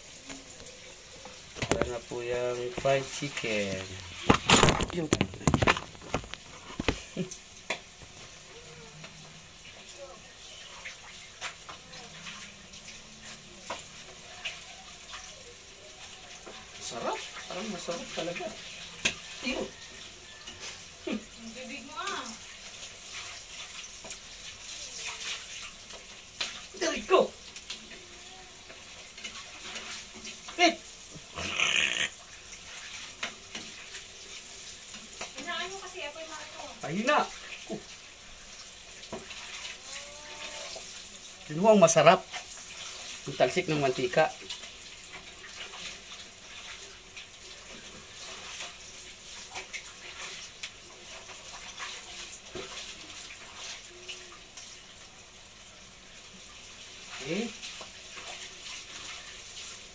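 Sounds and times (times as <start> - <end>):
fish frying in oil sizzling: 0.0 - 59.9.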